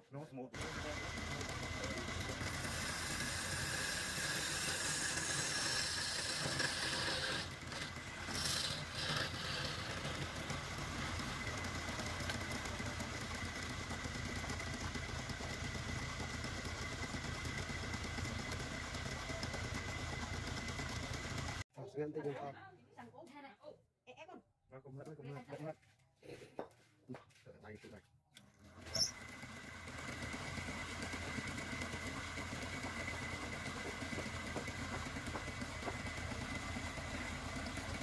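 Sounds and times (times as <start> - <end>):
turning tool cutting wood: 0.5 - 21.6, 28.6 - 38.0
wood lathe whining: 0.6 - 21.6, 28.6 - 38.0.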